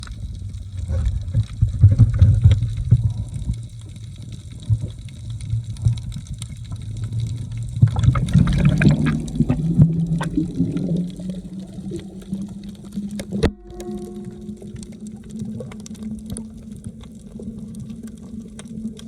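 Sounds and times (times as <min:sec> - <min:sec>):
muffled water sloshing: 0:00.0 - 0:19.0.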